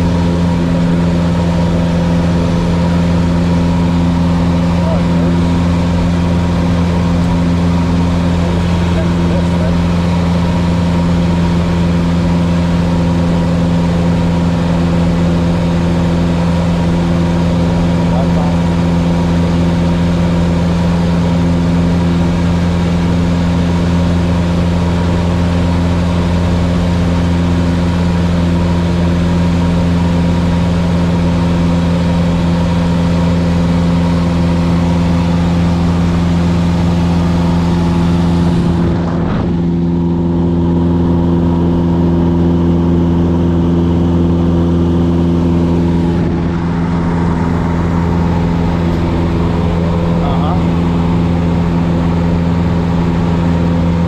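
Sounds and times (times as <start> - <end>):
light aircraft engine drone: 0.0 - 54.0.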